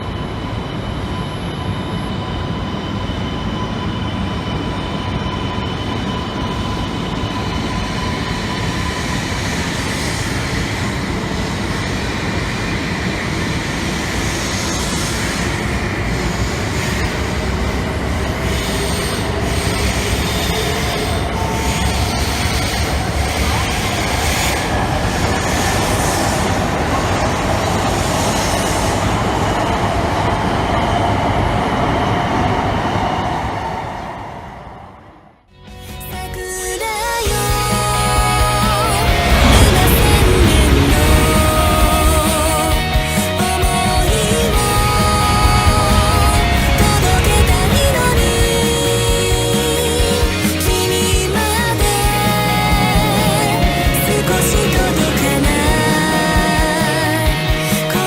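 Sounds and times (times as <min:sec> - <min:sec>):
train motor whine rising: 0:00.0 - 0:58.0
train rumbling: 0:00.0 - 0:58.0.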